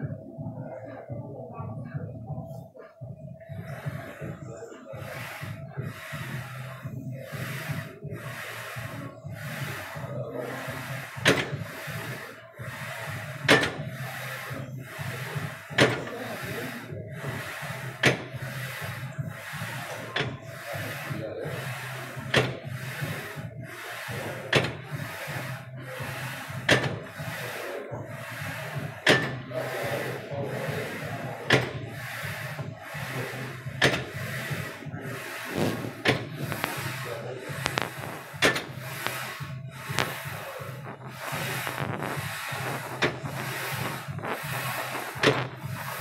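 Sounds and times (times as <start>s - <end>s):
steady low hum: 0.0s - 46.0s
moving parts rubbing: 3.4s - 46.0s
exercise machine knocking: 3.6s - 46.0s.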